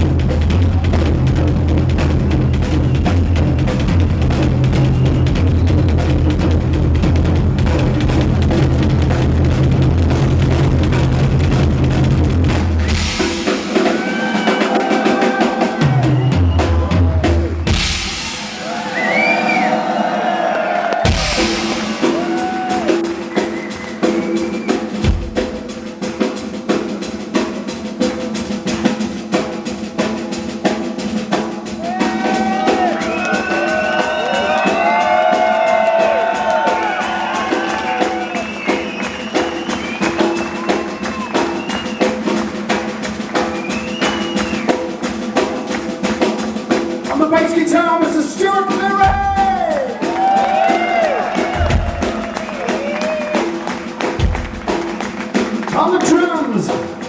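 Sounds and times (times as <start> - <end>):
fast drum kit: 0.0 - 57.0
rock music: 0.0 - 57.0.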